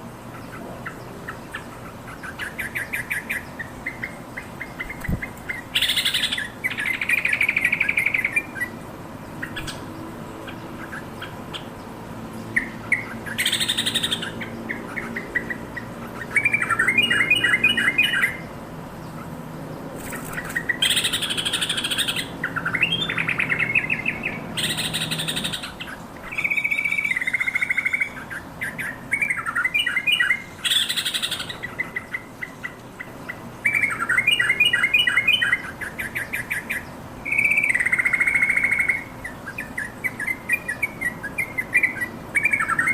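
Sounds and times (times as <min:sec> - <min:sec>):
bulbul chattering and chirping: 0:00.3 - 0:08.8, 0:09.4 - 0:18.5, 0:20.0 - 0:42.9.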